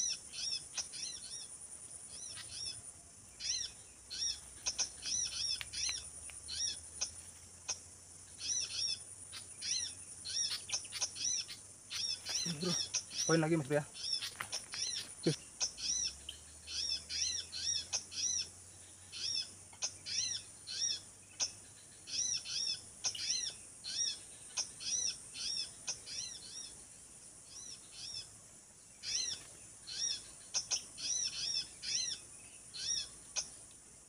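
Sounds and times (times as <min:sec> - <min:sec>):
faint steady high hiss: 0:00.0 - 0:34.0
songbird chirps: 0:00.0 - 0:34.0.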